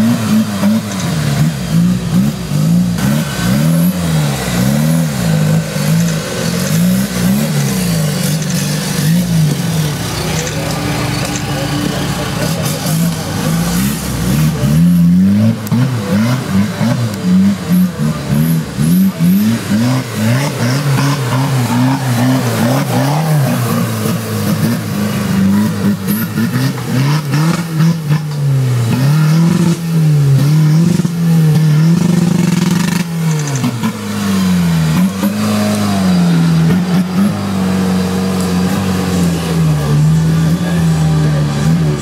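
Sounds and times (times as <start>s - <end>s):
off-road vehicle engine revving: 0.0s - 42.0s.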